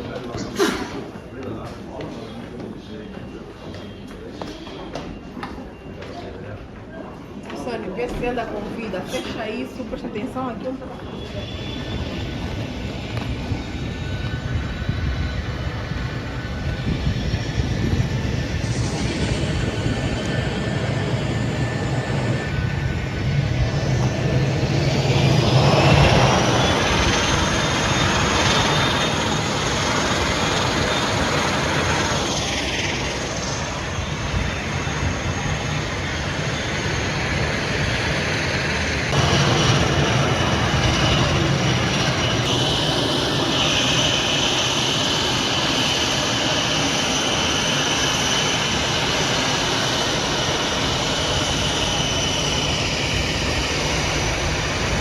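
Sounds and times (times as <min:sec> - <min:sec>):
jet engines whining: 0:07.1 - 0:55.0.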